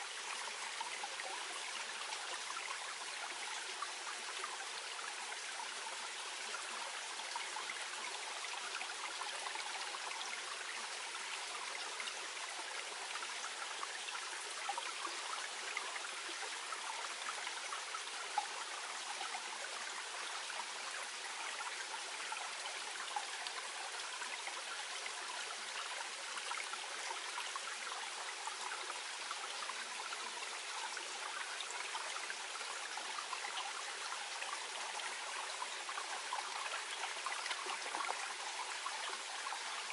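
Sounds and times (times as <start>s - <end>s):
stream babbling: 0.1s - 39.9s.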